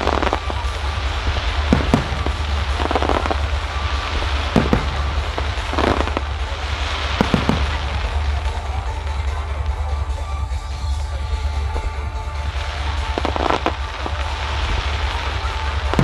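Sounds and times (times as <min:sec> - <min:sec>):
fireworks bangs: 0:00.0 - 0:16.0
fireworks crackling: 0:00.0 - 0:16.0
low rumble: 0:00.0 - 0:16.0.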